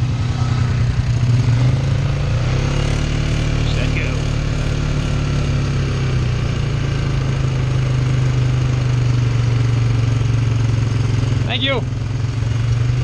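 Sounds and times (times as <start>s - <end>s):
atv engine droning: 0.0s - 13.0s.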